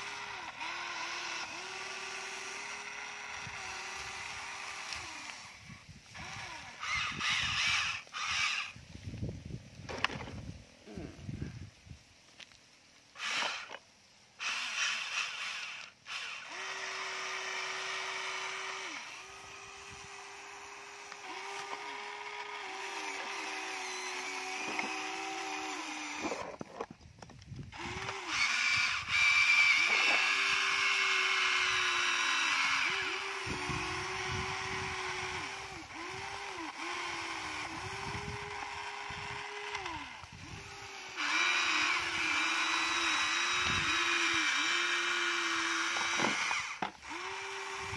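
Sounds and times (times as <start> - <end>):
toy excavator motors whining: 0.0 - 11.4, 12.4 - 47.9.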